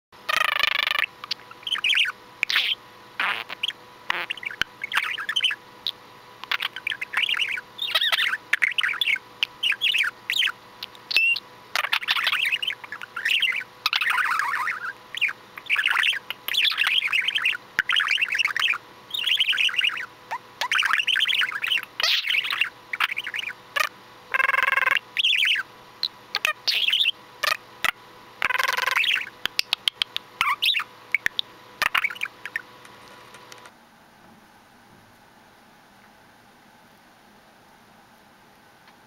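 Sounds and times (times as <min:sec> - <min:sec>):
budgerigar chirping: 0:00.3 - 0:32.6.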